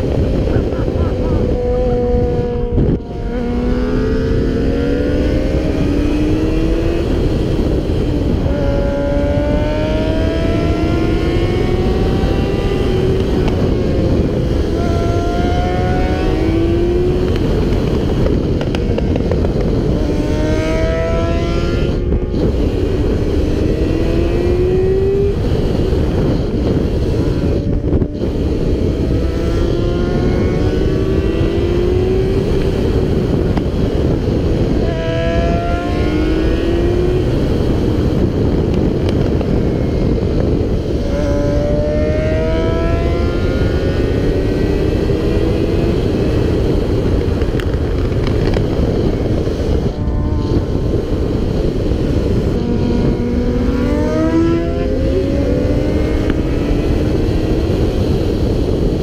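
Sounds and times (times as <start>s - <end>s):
motorcycle engine accelerating: 0.0s - 59.0s
wind rush: 0.0s - 59.0s.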